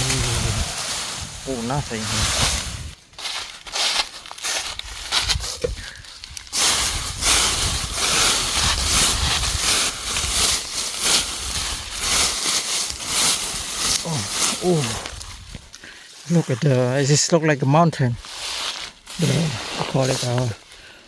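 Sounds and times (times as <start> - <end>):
dry plant litter crunching: 0.0 - 21.0.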